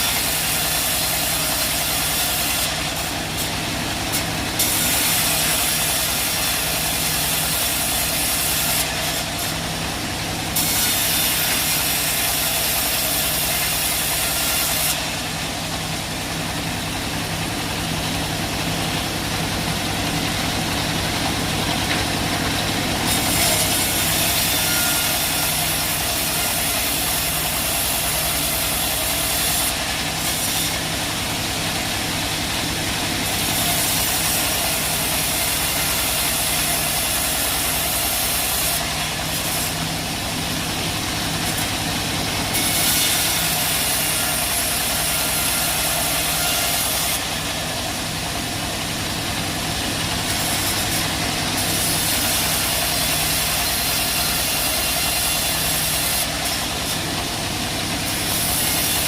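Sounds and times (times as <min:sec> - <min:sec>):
saw blade hissing: 0:00.0 - 0:09.8, 0:10.4 - 0:31.5, 0:33.1 - 0:47.9, 0:50.1 - 0:59.0
sawmill engine drone: 0:00.0 - 0:59.0.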